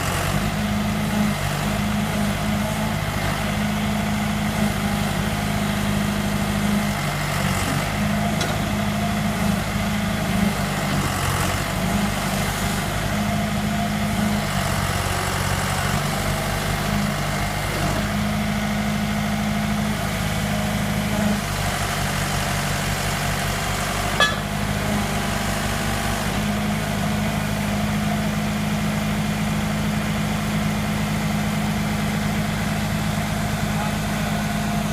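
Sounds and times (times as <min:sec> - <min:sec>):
backhoe engine idling: 0:00.0 - 0:34.9.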